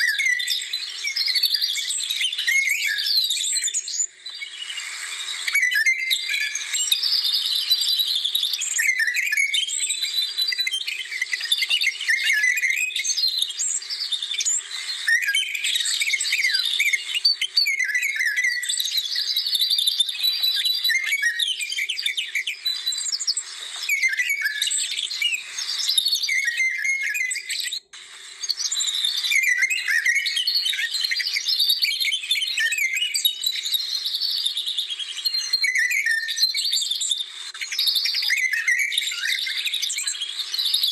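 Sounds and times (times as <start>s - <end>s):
small birds chirping chorus: 0.0s - 40.9s.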